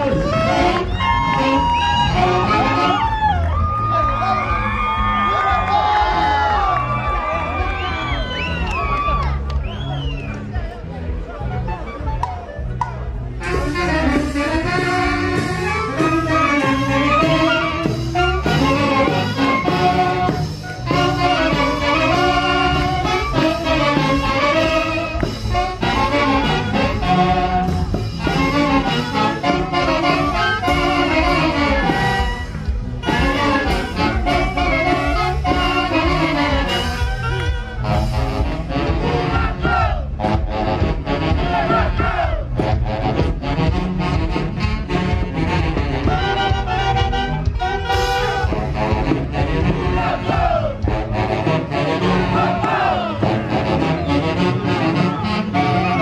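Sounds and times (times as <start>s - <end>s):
saxophones and trumpets playing: 0.0s - 56.0s
steady driving beat: 0.0s - 56.0s.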